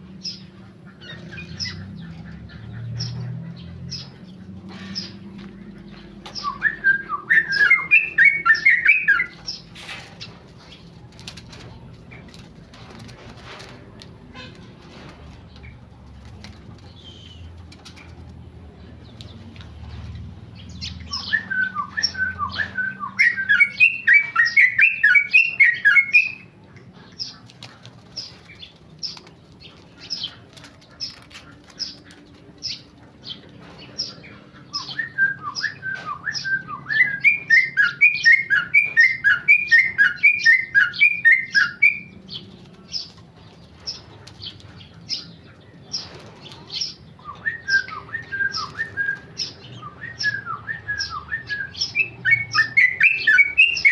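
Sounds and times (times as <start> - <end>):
bird singing rapid chirps: 0.0 - 13.7, 14.3 - 53.9.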